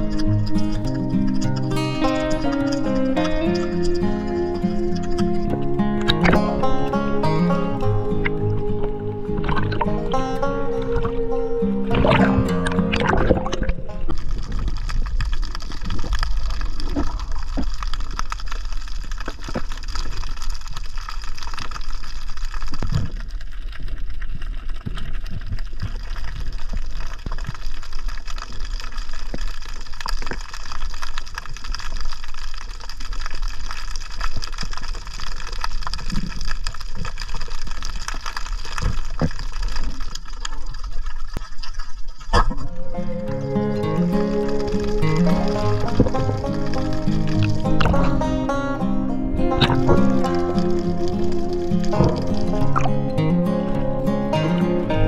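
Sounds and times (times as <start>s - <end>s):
water gurgling and rushing: 0.0s - 55.0s.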